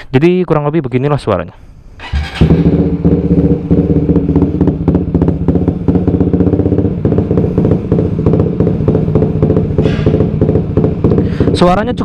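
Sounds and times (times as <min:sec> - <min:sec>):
motorcycle engine idling with popping exhaust: 0:02.0 - 0:12.0.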